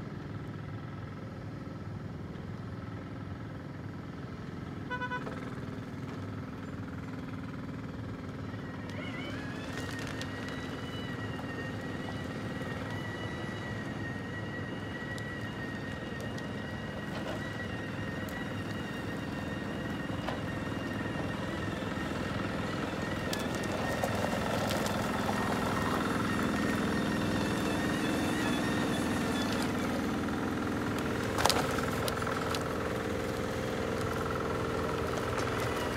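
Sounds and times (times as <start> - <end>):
low engine hum: 0.0 - 35.9
machinery high whine: 6.4 - 35.9.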